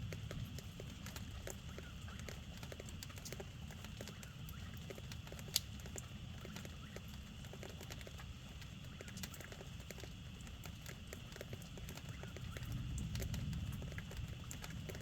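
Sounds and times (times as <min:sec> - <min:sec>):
drips and taps: 0:00.0 - 0:15.0
rain pattering: 0:00.0 - 0:15.0.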